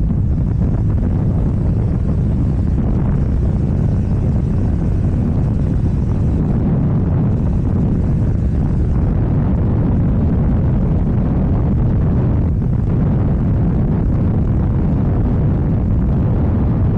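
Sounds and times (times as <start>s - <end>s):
motorcycle engine riding: 0.0s - 16.9s.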